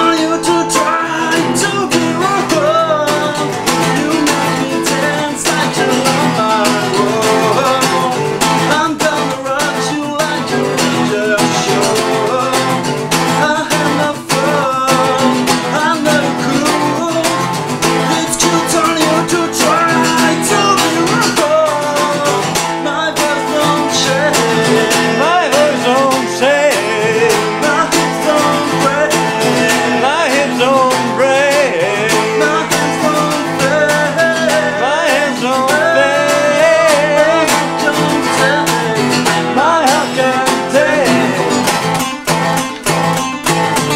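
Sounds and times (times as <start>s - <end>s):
man singing: 0.0s - 43.9s
strummed acoustic guitar: 0.0s - 43.9s.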